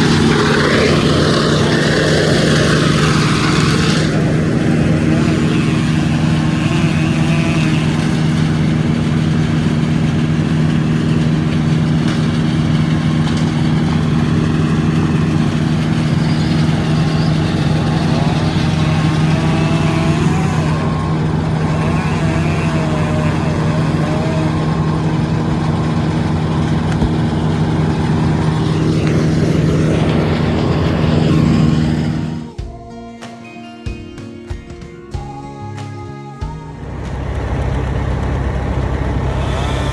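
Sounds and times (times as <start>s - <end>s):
engine humming steadily: 0.0s - 32.6s, 35.2s - 39.9s.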